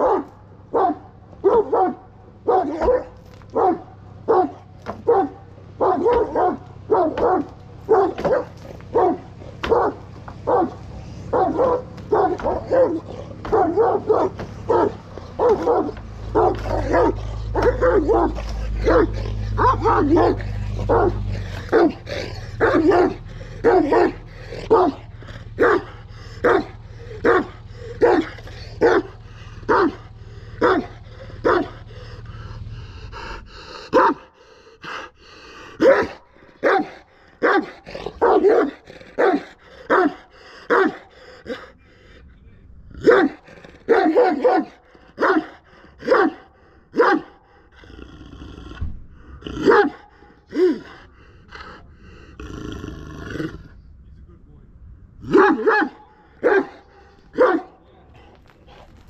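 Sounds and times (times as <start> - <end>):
dog barking deeply: 0.0 - 41.8, 42.9 - 47.5, 49.4 - 51.0, 55.2 - 58.4.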